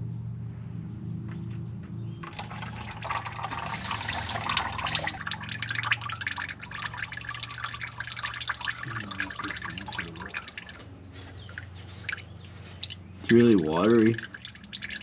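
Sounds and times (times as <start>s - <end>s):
low steady hum: 0.0s - 15.0s
oil pouring into drain pan: 2.2s - 15.0s.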